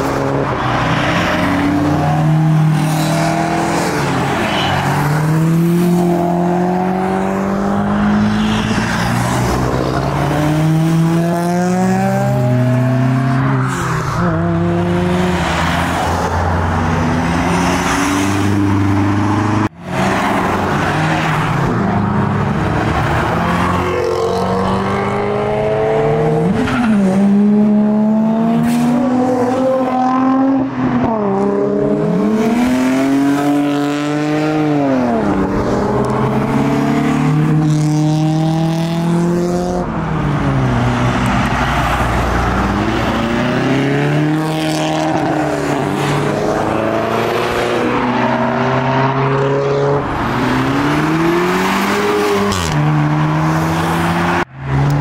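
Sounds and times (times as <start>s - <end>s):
car engines accelerating: 0.0s - 55.0s.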